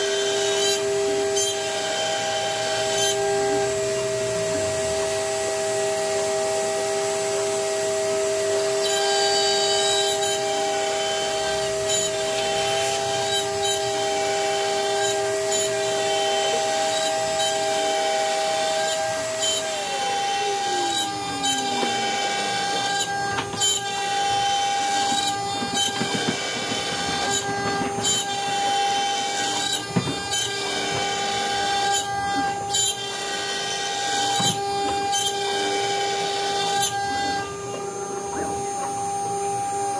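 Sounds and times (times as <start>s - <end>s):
bit cutting wood: 0.0s - 39.9s
router spindle whine: 0.0s - 39.9s.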